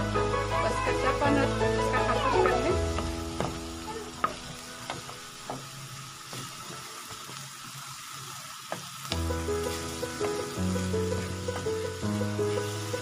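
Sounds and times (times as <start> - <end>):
chicken sizzling in pan: 0.0 - 13.0.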